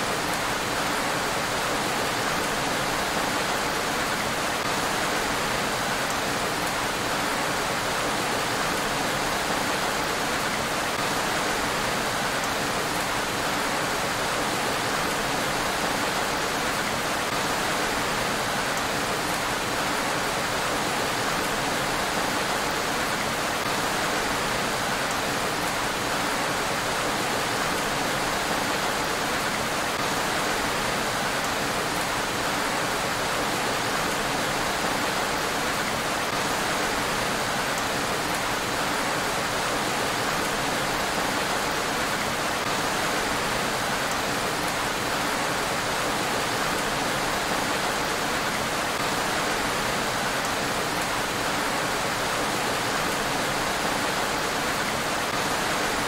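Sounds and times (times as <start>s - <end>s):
rain falling on a road: 0.0s - 56.0s.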